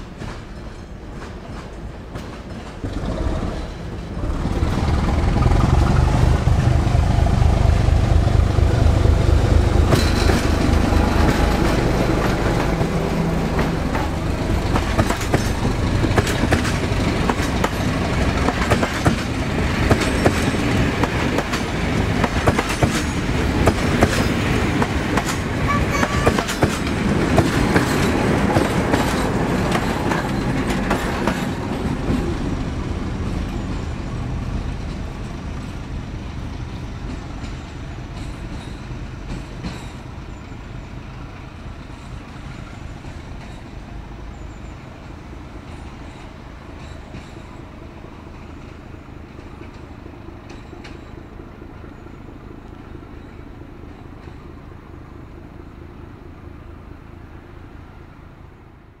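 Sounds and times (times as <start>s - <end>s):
train engines and wheels rumbling: 0.0s - 59.0s.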